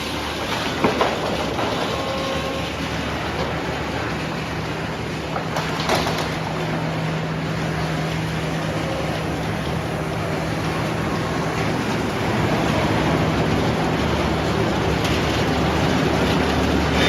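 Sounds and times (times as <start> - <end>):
engine hum: 0.0 - 17.0
sawmill machine and cutting noise: 0.0 - 17.0.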